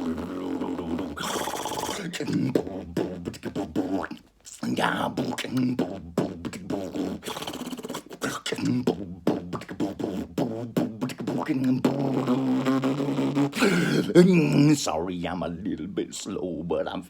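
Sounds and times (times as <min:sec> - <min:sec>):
man beatboxing: 0:00.0 - 0:17.0.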